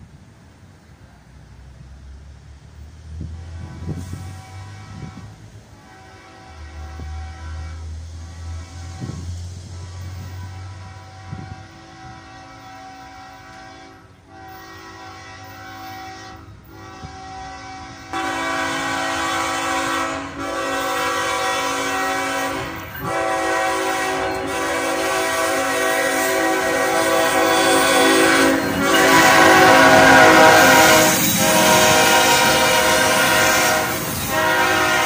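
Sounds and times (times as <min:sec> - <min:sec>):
locomotive air horn blasts: 0:03.2 - 0:35.0.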